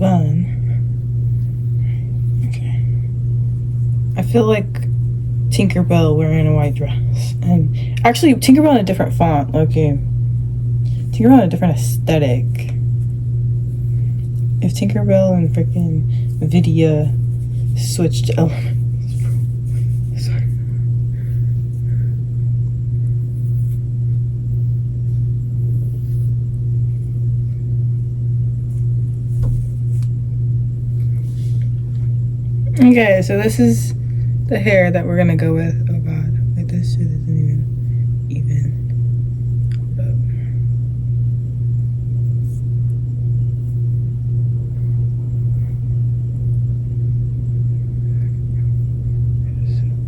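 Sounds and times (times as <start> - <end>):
loud steady low hum: 0.0 - 50.0.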